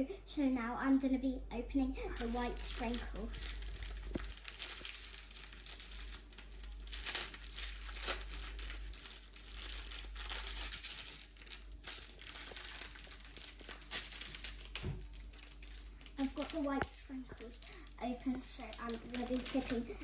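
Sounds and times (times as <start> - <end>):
plastic packet crinkling: 2.2 - 20.0.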